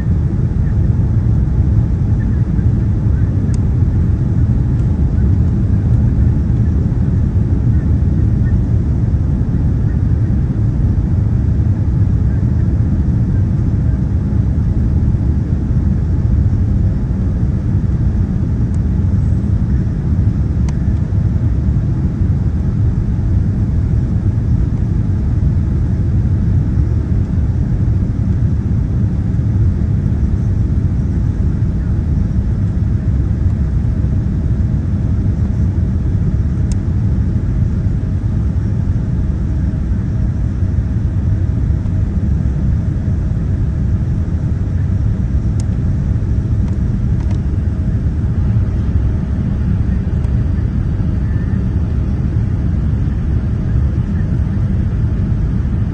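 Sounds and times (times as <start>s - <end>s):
airliner cabin engine rumble: 0.0s - 55.9s
faint steady hum: 0.0s - 55.9s.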